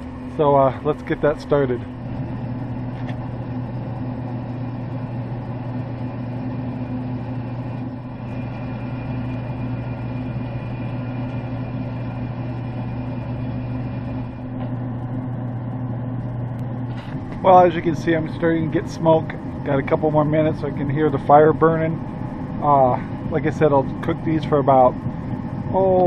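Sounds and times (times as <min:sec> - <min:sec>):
grill fan motor humming: 0:00.0 - 0:26.0.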